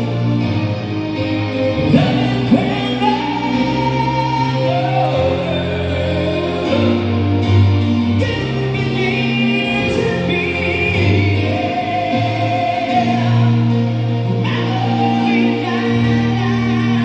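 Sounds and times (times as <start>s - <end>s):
electronic keyboard chords: 0.0s - 17.0s
low bass notes: 0.0s - 17.0s
person singing into microphone: 1.8s - 17.0s.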